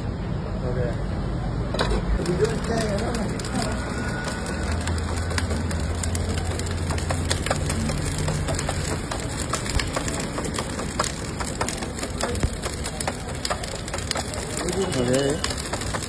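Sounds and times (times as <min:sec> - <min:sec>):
burning coals crackling: 0:02.1 - 0:16.0.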